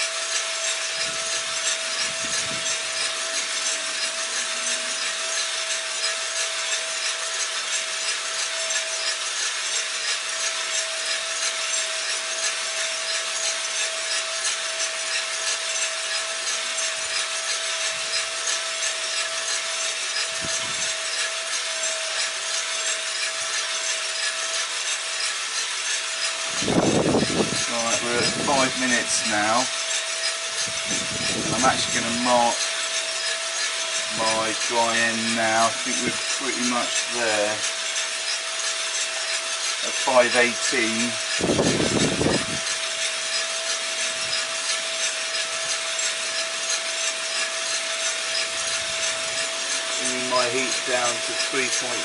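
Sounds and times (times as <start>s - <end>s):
coffee roaster hissing: 0.0s - 52.0s.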